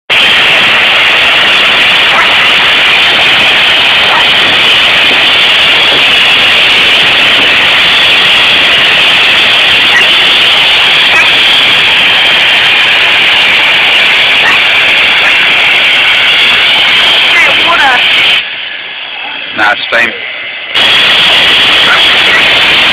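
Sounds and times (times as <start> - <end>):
steam locomotive venting steam: 0.1 - 22.9.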